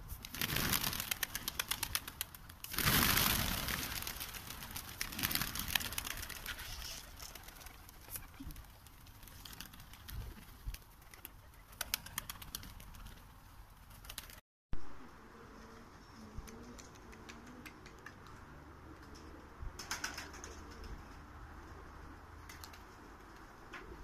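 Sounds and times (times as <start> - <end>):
pigeon wings clapping and flapping: 0.1 - 14.4, 16.4 - 21.2, 22.4 - 24.0.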